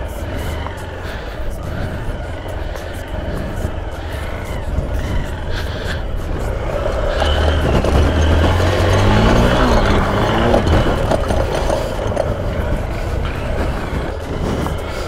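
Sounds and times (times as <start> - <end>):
motorcycle engine under throttle: 0.0 - 15.0.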